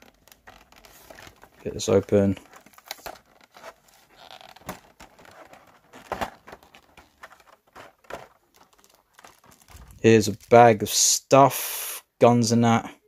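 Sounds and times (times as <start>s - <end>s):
plastic packaging clicks and crinkles: 0.0s - 10.8s.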